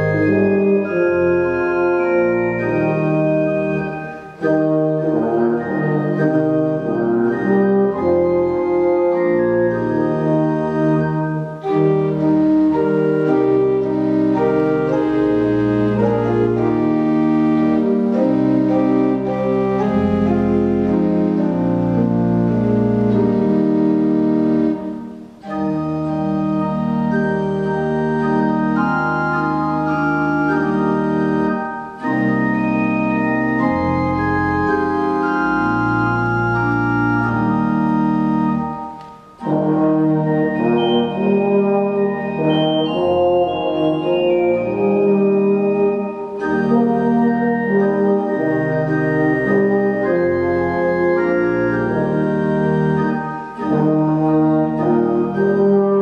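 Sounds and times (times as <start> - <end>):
low brass instrument playing: 0.0 - 56.0
organ chords: 0.0 - 56.0.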